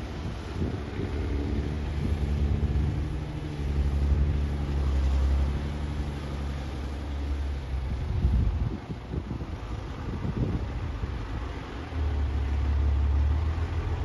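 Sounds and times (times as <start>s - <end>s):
excavator engine rumbling: 0.0s - 14.0s.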